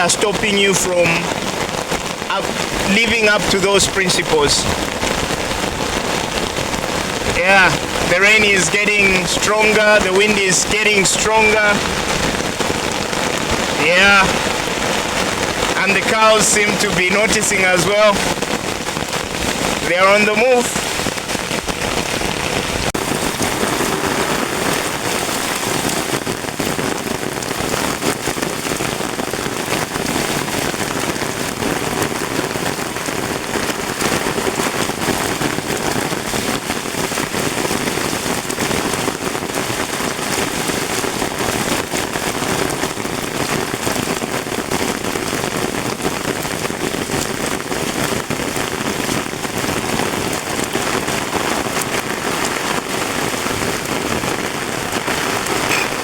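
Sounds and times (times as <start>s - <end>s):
heavy rain on an umbrella: 0.0s - 56.0s.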